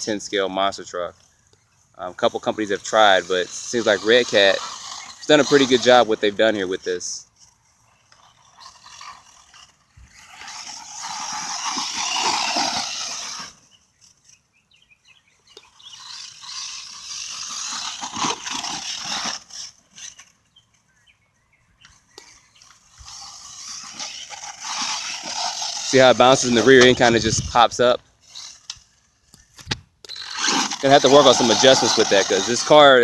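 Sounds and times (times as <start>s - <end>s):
toy truck motor running: 0.0s - 20.9s, 21.9s - 33.0s.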